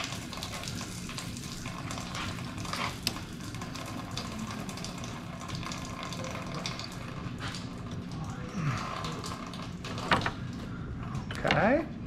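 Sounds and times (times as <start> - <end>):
fuel pouring and spattering: 0.0 - 10.8.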